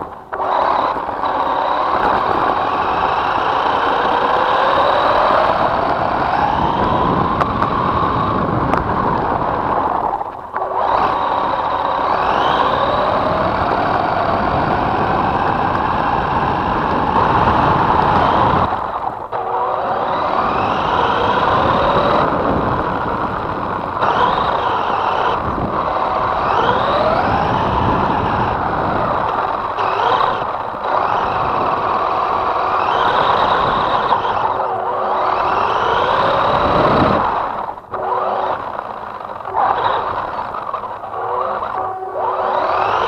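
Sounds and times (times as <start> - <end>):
toy truck motor whining: 0.0 - 43.0.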